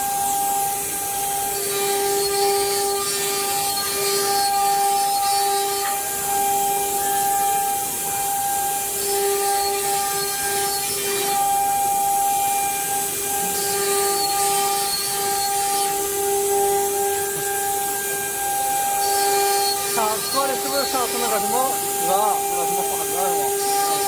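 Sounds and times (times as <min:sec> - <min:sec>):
router spindle cutting wood: 0:00.0 - 0:24.0.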